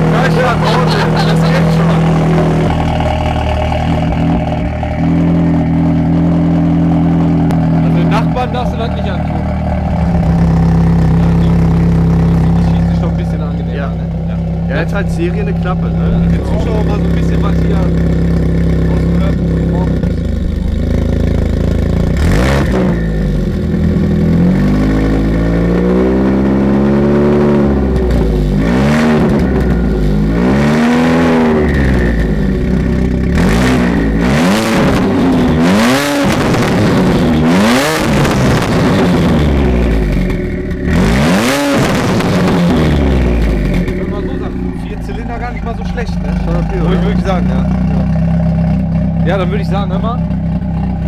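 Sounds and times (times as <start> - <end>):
car engine revving: 0.0 - 51.0
exhaust cracks: 0.0 - 51.0.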